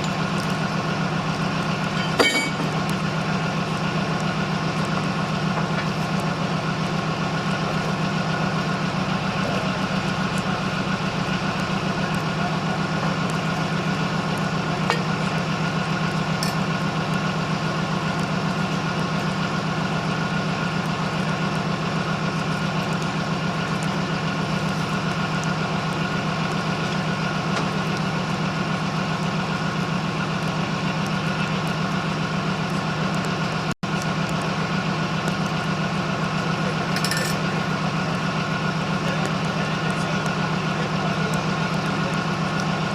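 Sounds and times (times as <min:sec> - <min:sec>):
large engine idling: 0:00.0 - 0:42.9.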